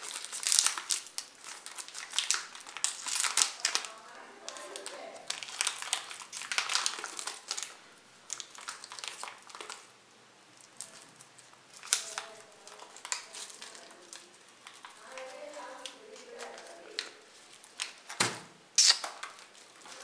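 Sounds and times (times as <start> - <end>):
plastic wrapper crinkling: 0.0 - 18.2, 18.8 - 20.0.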